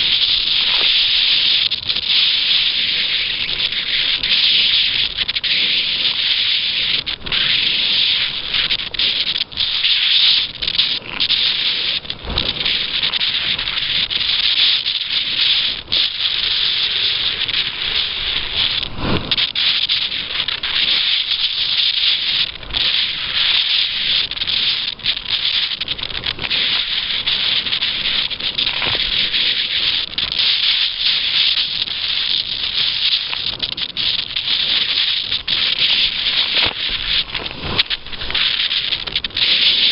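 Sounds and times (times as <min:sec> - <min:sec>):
wind and water rushing: 0:00.0 - 0:39.9.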